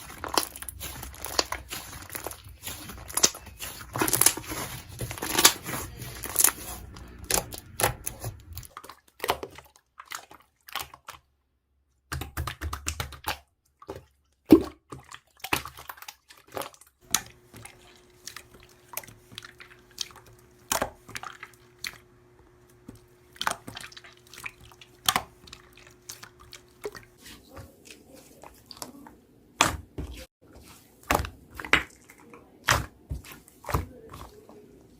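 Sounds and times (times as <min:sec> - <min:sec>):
hands squishing slime: 0:00.0 - 0:11.2, 0:14.9 - 0:34.9.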